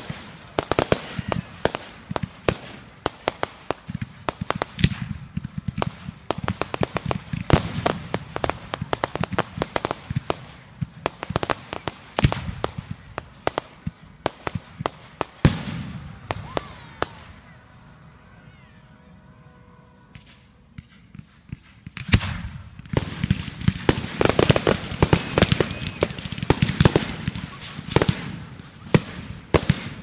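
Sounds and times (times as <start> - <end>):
fireworks banging and popping: 0.0 - 17.4, 20.1 - 30.0
fireworks crackling: 0.0 - 17.8, 20.1 - 30.0.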